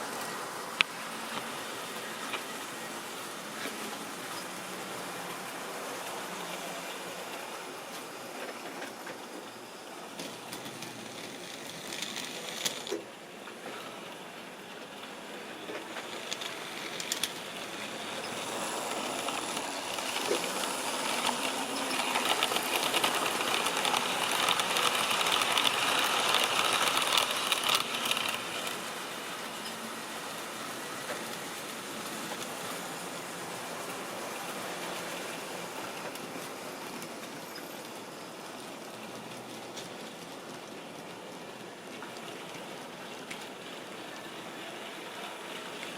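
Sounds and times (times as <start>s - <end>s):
model train motor whirring: 0.0s - 45.9s
wheels clicking over rail joints: 0.1s - 45.9s.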